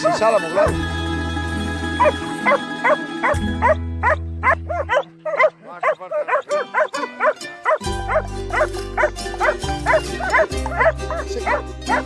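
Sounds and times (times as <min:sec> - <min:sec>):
dogs yelping: 0:00.0 - 0:00.8, 0:02.0 - 0:12.0
background music with held tones: 0:00.0 - 0:12.0.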